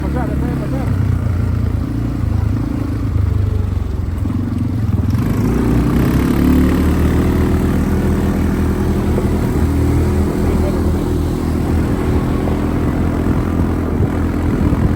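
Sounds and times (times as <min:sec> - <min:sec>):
quad bike engine running: 0:00.0 - 0:14.9.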